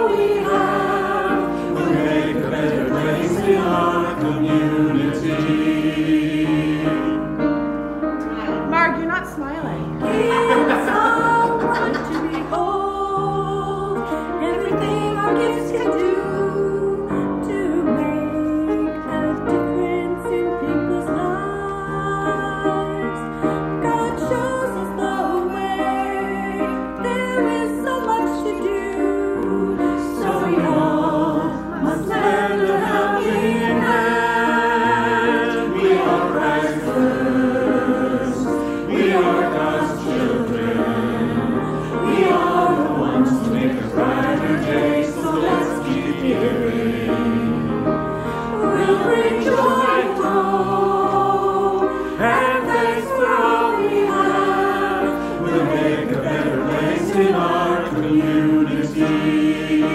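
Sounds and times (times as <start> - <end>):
choir singing: 0.0 - 8.7, 9.8 - 59.9
instrumental accompaniment: 0.0 - 59.9.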